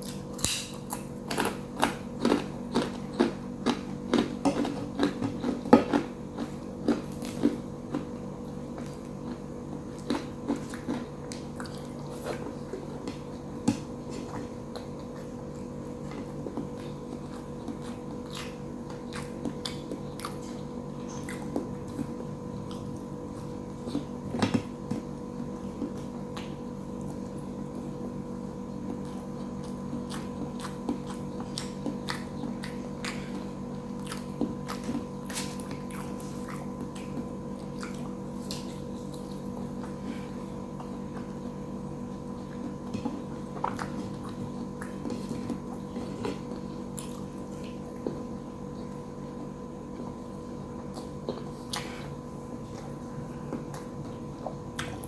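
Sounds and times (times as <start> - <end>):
chewing and biting food: 0.0 - 55.0
steady low hum: 0.0 - 55.0.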